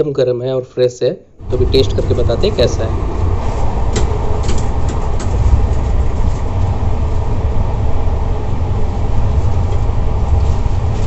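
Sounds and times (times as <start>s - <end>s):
train rumbling inside coach: 1.4s - 11.0s.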